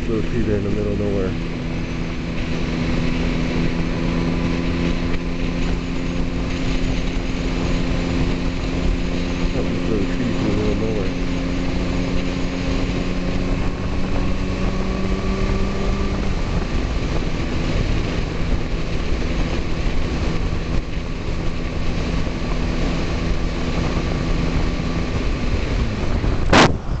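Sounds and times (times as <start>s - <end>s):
motorcycle engine cruising: 0.0s - 27.0s
wind noise on microphone: 0.0s - 27.0s.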